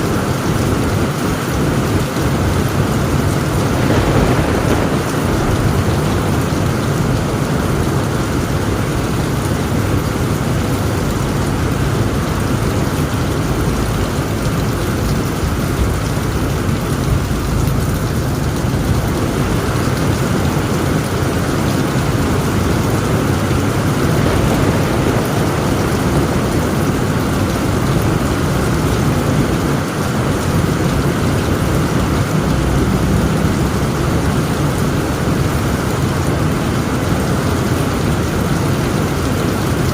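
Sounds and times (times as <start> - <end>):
heavy rain on tent roof: 0.0 - 39.9
low rumble of thunder: 0.0 - 39.9.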